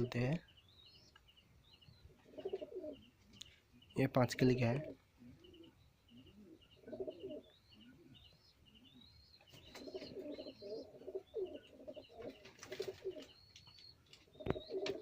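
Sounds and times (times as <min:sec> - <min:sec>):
pigeons cooing: 0:02.0 - 0:03.9, 0:04.5 - 0:15.0.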